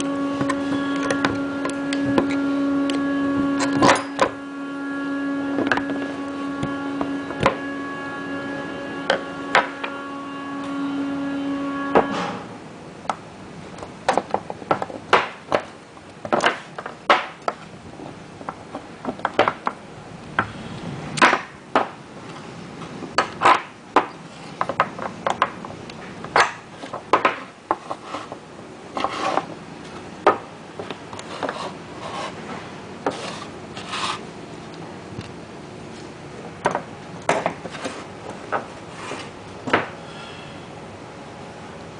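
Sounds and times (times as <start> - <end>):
steady humming tone: 0.0 - 41.9.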